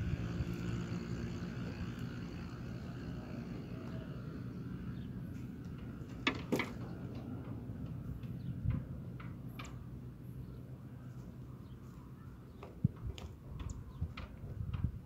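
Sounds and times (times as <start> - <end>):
steady low rumble: 0.0 - 6.2, 6.8 - 15.0.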